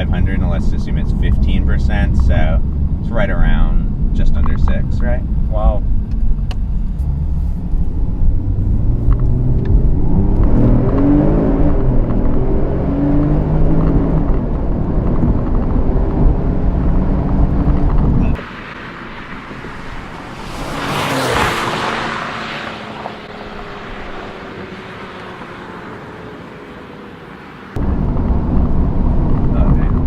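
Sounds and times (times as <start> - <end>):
car engine running at speed: 0.0 - 30.0
rush of noise: 0.2 - 30.0.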